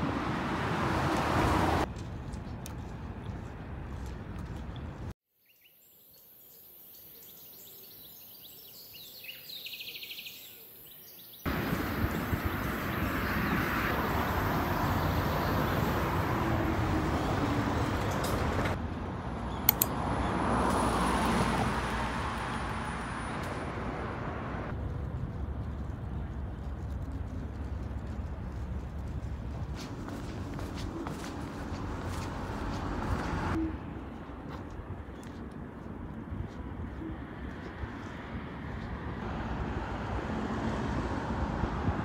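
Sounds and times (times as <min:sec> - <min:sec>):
road traffic noise: 0:00.0 - 0:05.2, 0:11.5 - 0:42.0.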